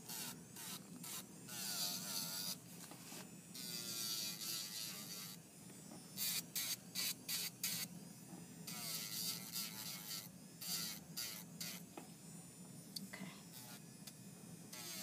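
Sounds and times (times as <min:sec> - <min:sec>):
electric nail drill grinding: 0:00.0 - 0:05.4, 0:06.1 - 0:08.0, 0:08.6 - 0:12.0, 0:13.5 - 0:15.0.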